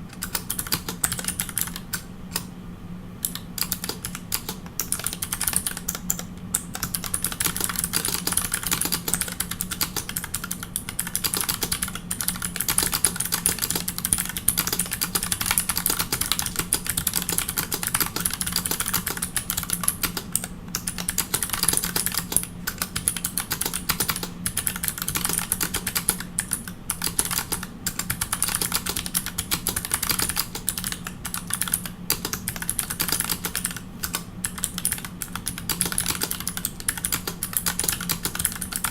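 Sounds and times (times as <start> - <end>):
mechanical keyboard typing: 0.1 - 2.5, 3.2 - 38.9.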